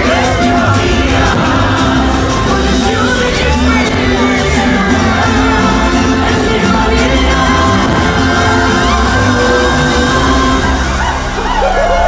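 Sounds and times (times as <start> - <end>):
crowd shouting and whooping: 0.0 - 12.0
loud music with singing: 0.0 - 12.0.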